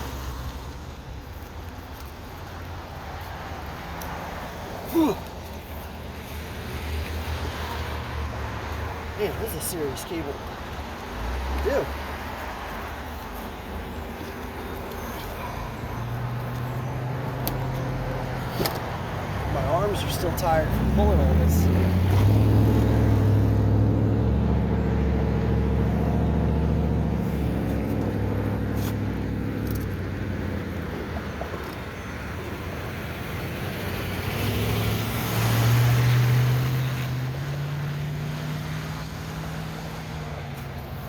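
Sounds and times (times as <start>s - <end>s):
vehicle passing: 3.1s - 31.6s, 32.9s - 41.0s.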